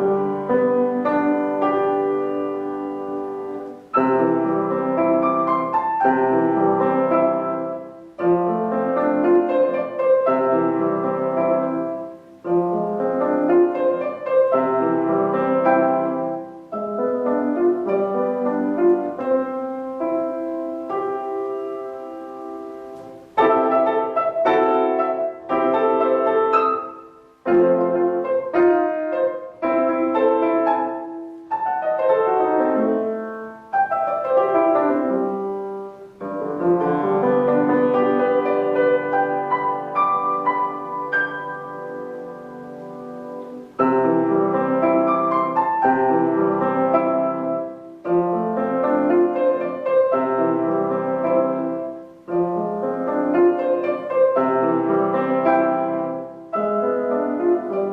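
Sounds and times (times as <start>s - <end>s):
solo piano piece: 0.0s - 57.9s.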